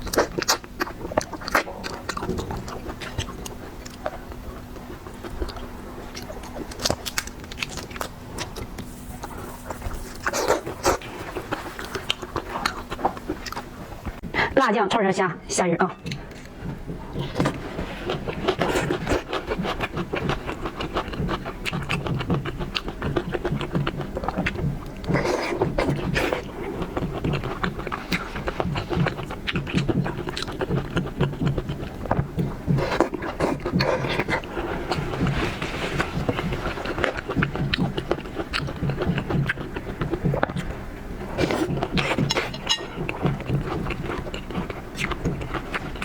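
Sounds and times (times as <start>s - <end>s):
wet chewing and lip smacking: 0.0s - 14.2s, 15.9s - 46.0s.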